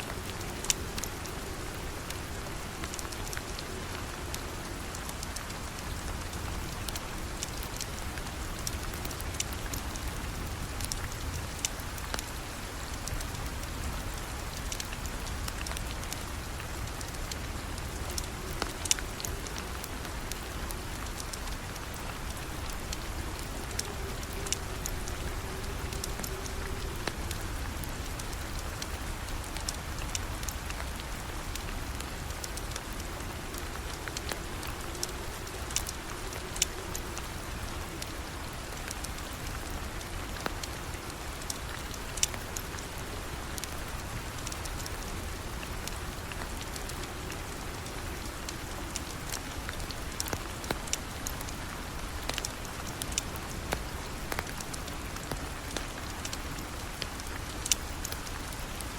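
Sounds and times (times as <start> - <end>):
rain hiss: 0.0 - 58.9
wood fire crackling: 0.0 - 58.9.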